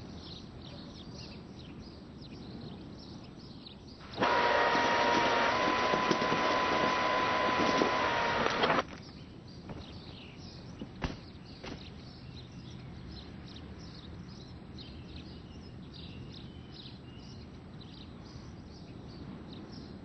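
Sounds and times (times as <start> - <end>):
birds chirping and twittering: 0.0 - 20.0
low outdoor hum: 0.0 - 20.0.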